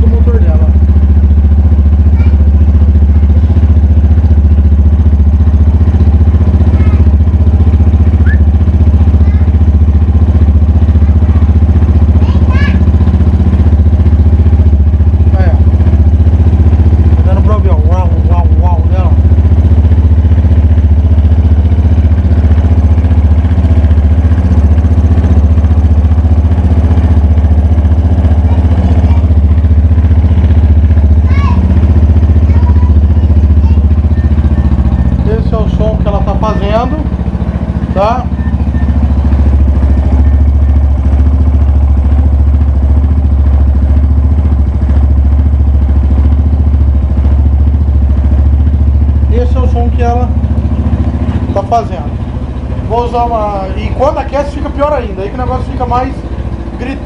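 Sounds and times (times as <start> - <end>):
motorcycle engine idling: 0.0 - 57.0
strange engine noise: 0.0 - 57.0.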